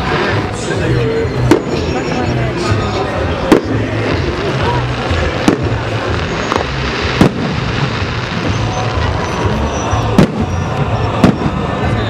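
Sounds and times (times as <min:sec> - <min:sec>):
noisy background: 0:00.0 - 0:12.0.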